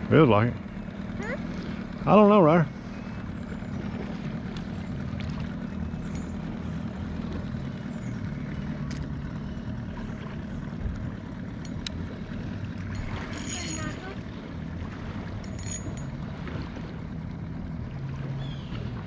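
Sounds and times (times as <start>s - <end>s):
distant motorboat engine drone: 0.0s - 19.0s.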